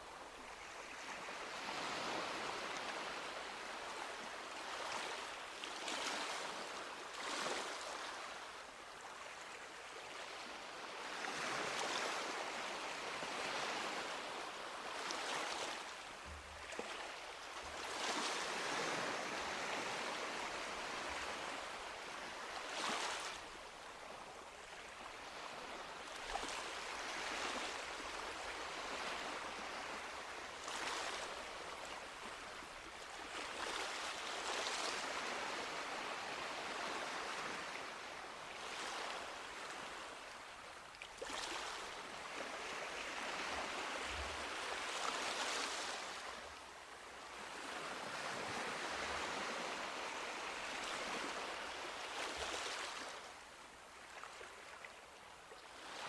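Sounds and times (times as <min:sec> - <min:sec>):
small waves washing up a beach: 0:00.0 - 0:56.0.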